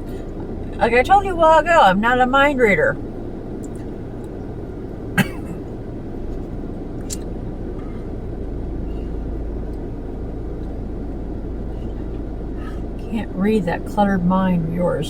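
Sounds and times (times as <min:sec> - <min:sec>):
car idling: 0:00.0 - 0:15.0.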